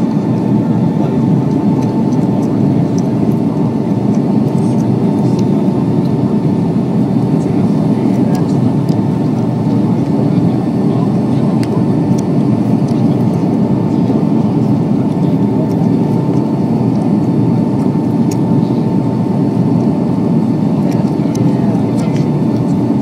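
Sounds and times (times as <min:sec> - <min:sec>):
airliner cabin engine rush: 0:00.0 - 0:23.0.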